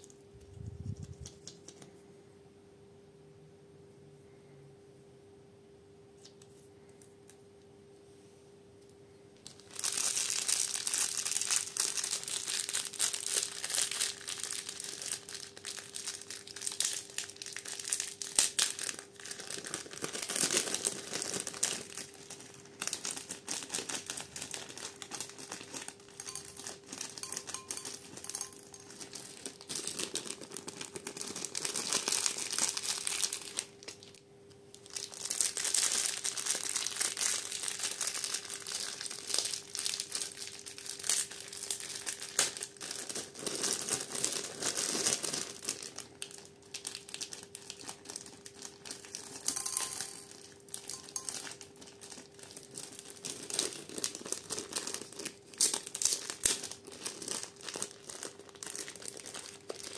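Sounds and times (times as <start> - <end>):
faint steady hum: 0.0 - 59.9
plastic bags crinkling: 9.4 - 59.9.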